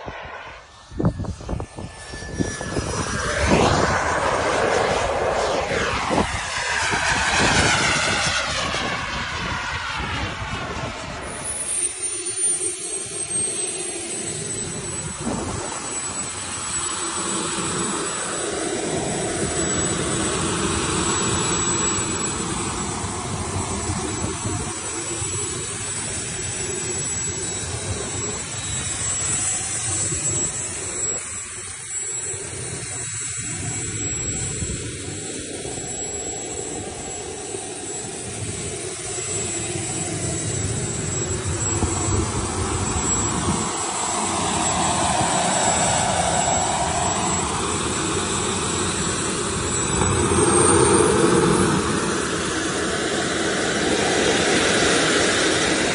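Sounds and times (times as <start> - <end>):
model jet turbine running: 0.0 - 55.9.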